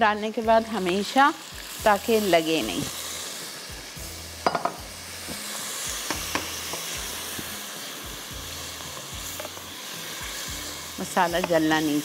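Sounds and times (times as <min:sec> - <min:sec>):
masala sizzling in a pan: 0:00.0 - 0:12.0.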